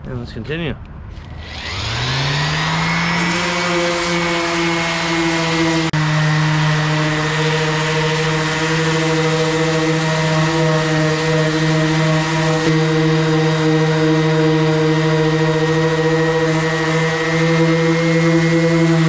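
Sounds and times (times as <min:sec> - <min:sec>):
electric sander whine: 0:01.2 - 0:19.0.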